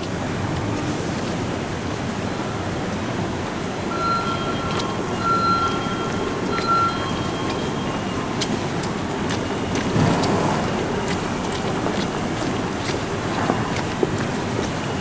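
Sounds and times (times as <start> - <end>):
traffic rumbling: 0.0 - 15.0.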